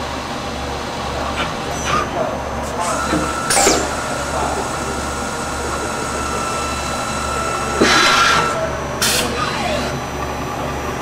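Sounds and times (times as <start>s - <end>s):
lathe high whine: 0.0s - 11.0s.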